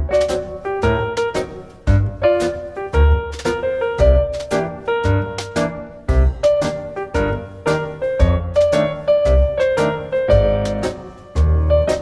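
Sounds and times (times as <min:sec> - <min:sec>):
piano-led instrumental music: 0:00.0 - 0:12.0.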